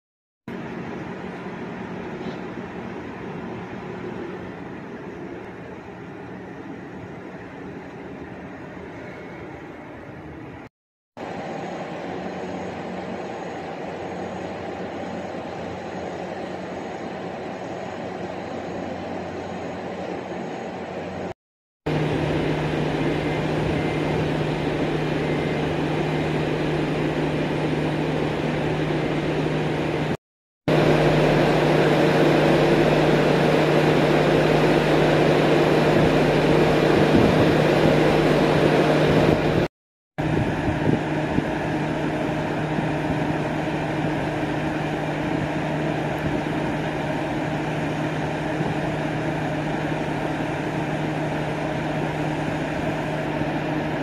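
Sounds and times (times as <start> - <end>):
diesel railcar engine idling: 0.5 - 21.3, 21.9 - 39.6, 40.2 - 54.0.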